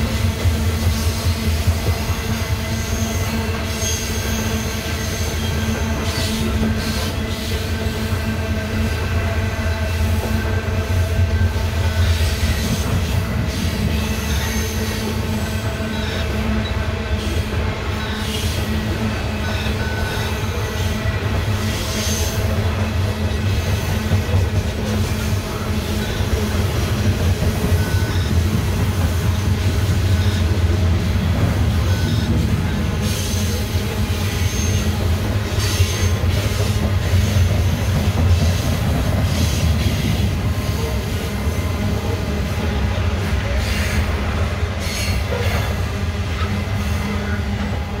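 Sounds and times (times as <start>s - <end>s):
train clanks: 0.0s - 48.0s
train wheels rumbling on rail: 0.0s - 48.0s.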